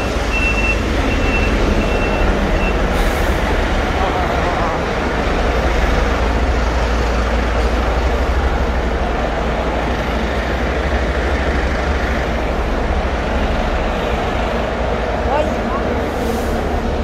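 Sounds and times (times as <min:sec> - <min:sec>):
diesel vehicle idling: 0:00.0 - 0:17.0
street traffic: 0:00.0 - 0:17.0.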